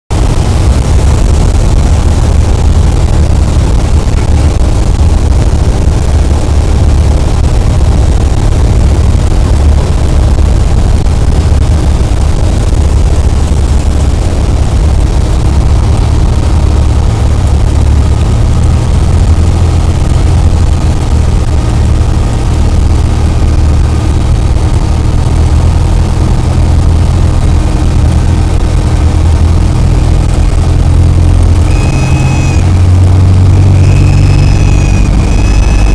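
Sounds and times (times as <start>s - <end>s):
propeller plane engine drone: 0.1s - 35.9s.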